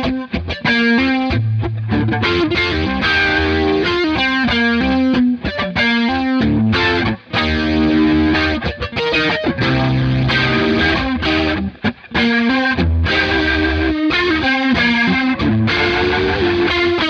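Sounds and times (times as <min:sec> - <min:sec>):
overdriven electric guitar with rotary effect: 0:00.0 - 0:17.0.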